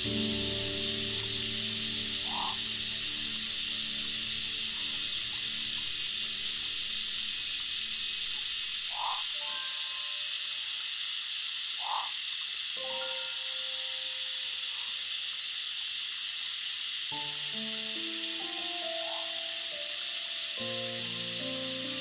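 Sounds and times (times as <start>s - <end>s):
soft background music: 0.0s - 10.9s, 12.8s - 15.3s, 17.1s - 22.0s
high-pitched forest hiss: 0.0s - 22.0s.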